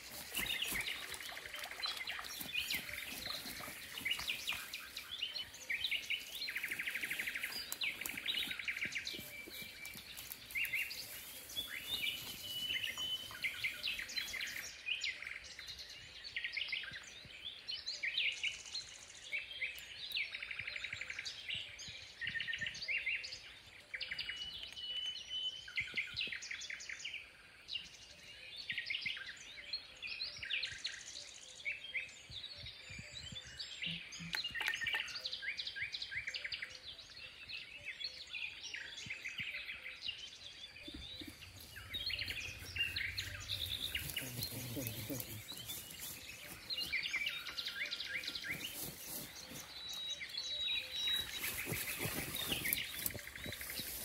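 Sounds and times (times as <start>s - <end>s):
birds chirping and trilling: 0.0s - 54.0s.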